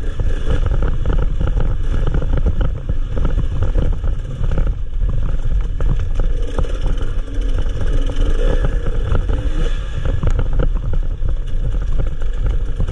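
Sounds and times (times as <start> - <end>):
motorcycle engine revving: 0.0 - 12.9
motorcycle rattling over bumps: 0.0 - 12.9
wind buffeting microphone: 0.0 - 12.9.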